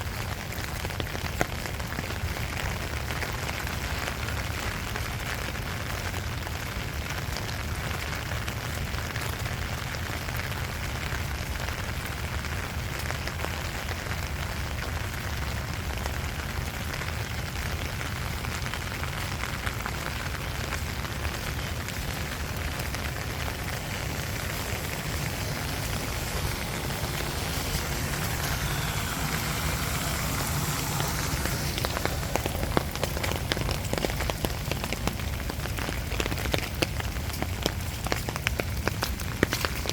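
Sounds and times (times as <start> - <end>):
close drips and patters: 0.0 - 39.9
rain falling on surfaces: 0.0 - 39.9.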